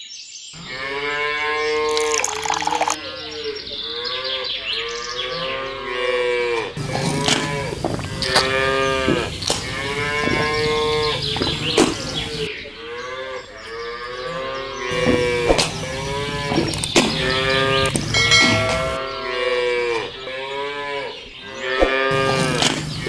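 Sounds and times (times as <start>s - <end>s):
cattle mooing: 0.6s - 3.0s, 5.4s - 13.4s, 14.3s - 23.0s.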